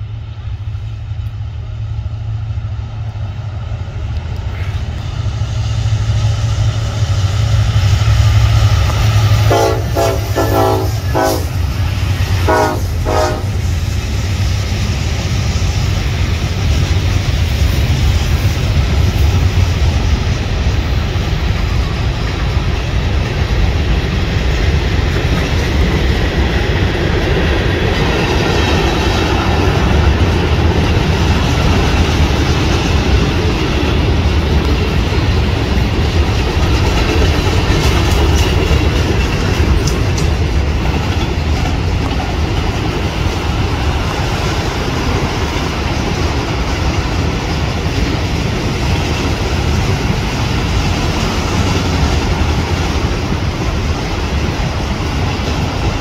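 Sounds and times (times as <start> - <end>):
steel wheels rumbling on rails: 0.0 - 56.0
train cars clattering: 1.2 - 56.0.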